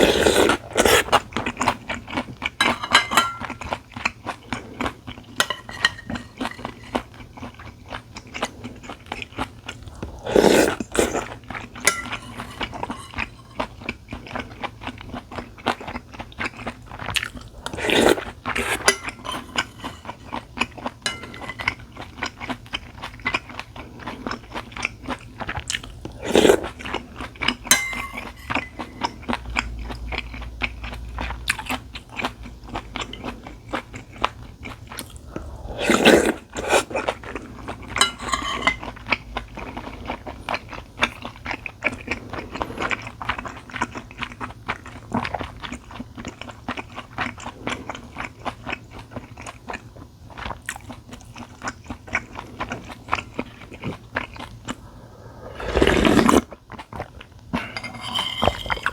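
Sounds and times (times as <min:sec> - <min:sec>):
person chewing food: 0:00.0 - 0:58.9.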